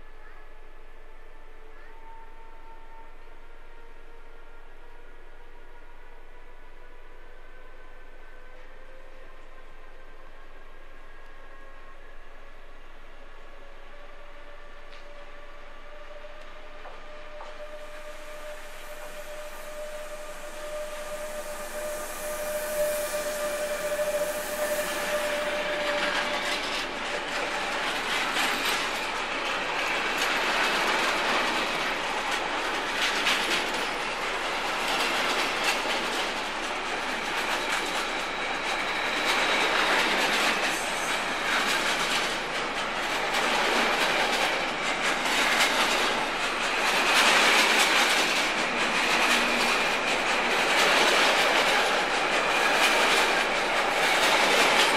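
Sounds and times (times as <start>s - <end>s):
electric locomotive whine: 0.0s - 54.9s.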